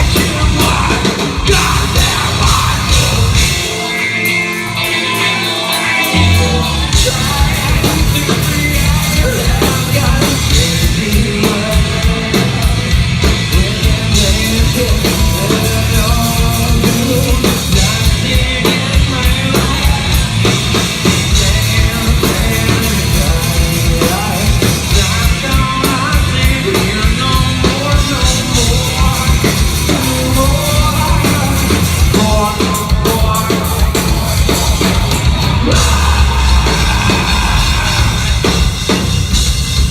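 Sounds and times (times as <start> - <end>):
person singing and shouting: 0.0 - 20.5, 21.1 - 39.0
metal band playing live: 0.0 - 39.9.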